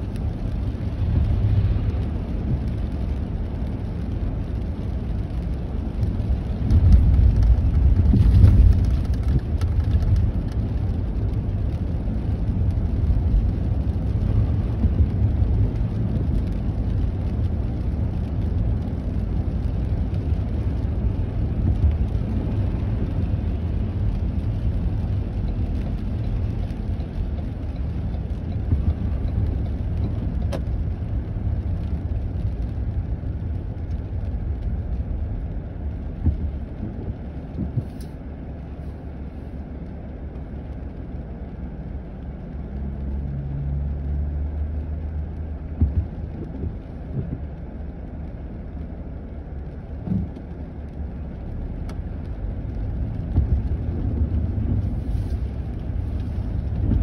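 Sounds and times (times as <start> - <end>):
car engine: 0.0 - 57.0
tyres rumbling on wet road: 0.0 - 57.0.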